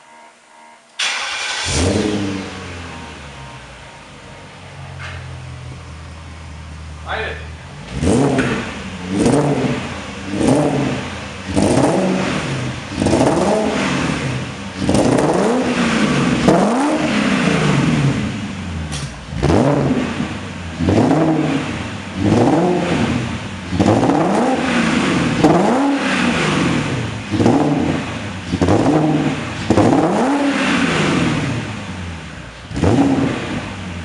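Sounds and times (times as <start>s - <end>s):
car engine revving: 0.9s - 34.0s.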